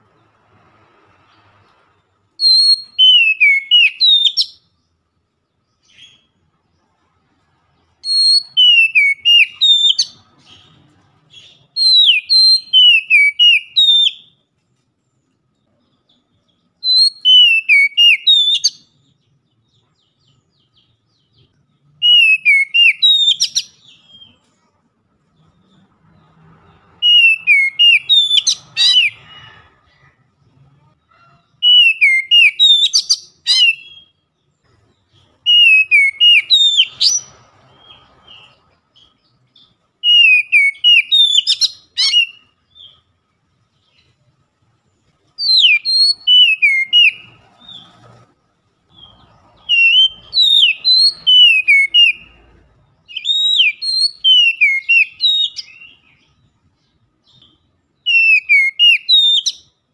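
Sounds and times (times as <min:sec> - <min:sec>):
bird singing whistled notes: 0:02.2 - 0:05.0, 0:05.6 - 0:06.5, 0:08.0 - 0:14.5, 0:15.2 - 0:24.5, 0:25.4 - 0:29.6, 0:31.5 - 0:44.2, 0:45.3 - 0:48.0, 0:48.8 - 0:59.9.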